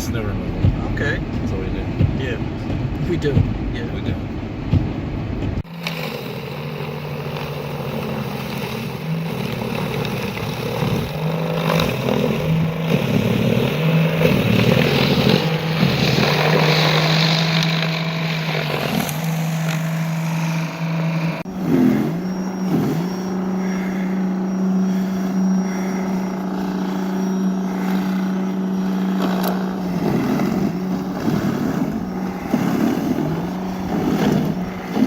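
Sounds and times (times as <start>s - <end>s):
snow blower motor running: 5.6s - 35.0s.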